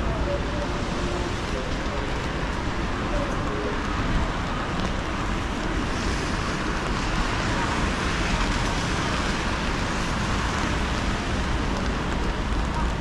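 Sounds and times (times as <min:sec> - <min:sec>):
city traffic: 0:00.0 - 0:13.0
rain falling: 0:00.0 - 0:13.0
tyres hissing on wet asphalt: 0:00.1 - 0:13.0.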